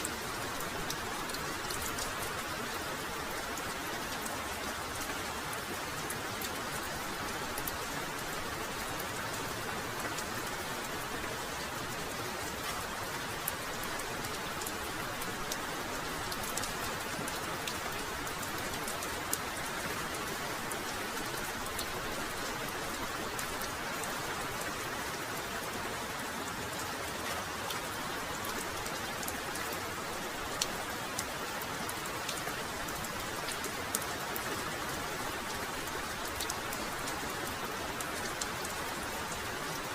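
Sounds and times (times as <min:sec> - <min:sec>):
raindrops ticking close by: 0:00.0 - 0:39.9.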